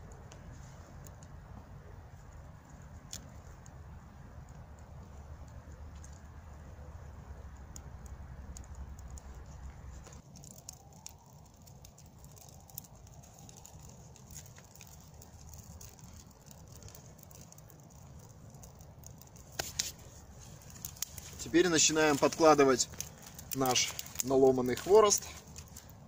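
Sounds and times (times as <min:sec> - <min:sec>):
tinder crackling as it burns: 0:00.0 - 0:26.0.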